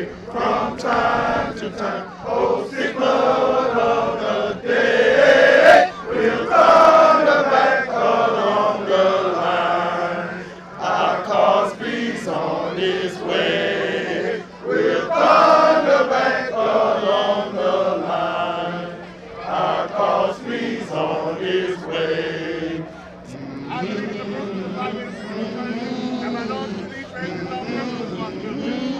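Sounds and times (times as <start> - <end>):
men chanting in unison: 0.0 - 28.9.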